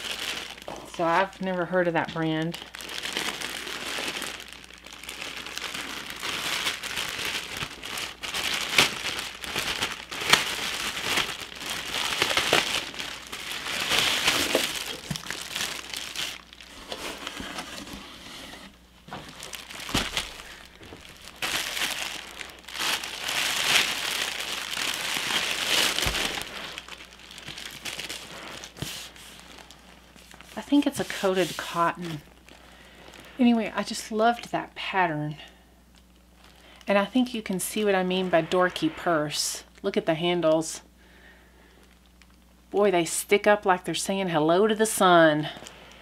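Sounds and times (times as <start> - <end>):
plastic bag crinkling and rustling: 0.0 - 34.6, 35.9 - 39.8, 44.9 - 46.0.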